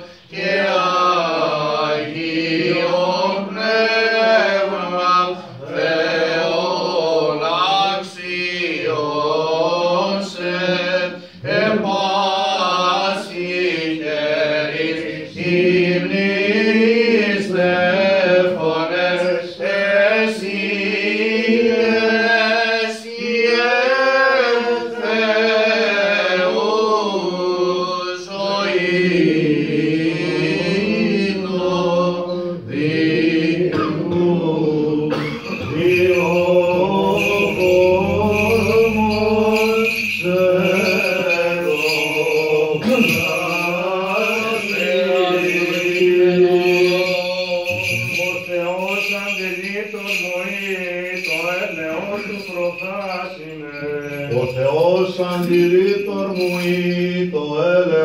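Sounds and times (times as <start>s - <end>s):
chant melody sung: 0.0s - 58.0s.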